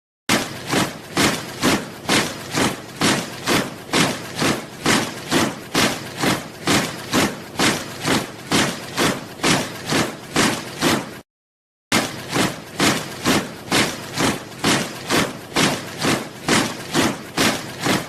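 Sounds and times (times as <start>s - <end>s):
soldiers marching in step: 0.3s - 11.2s, 11.9s - 18.0s.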